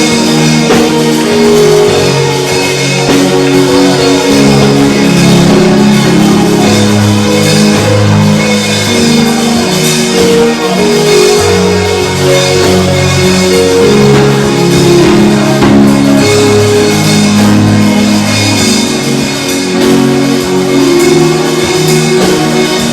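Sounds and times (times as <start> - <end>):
worship band playing: 0.0 - 22.9.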